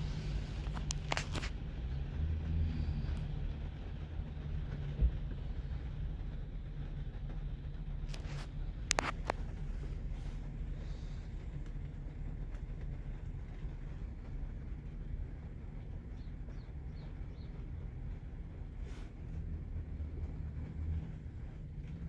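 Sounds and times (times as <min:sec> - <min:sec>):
diesel engine low rumble: 0:00.0 - 0:22.0.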